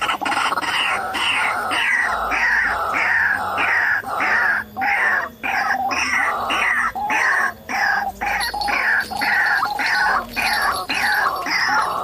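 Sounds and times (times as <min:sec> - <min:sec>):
waterhen calling: 0:00.0 - 0:12.0.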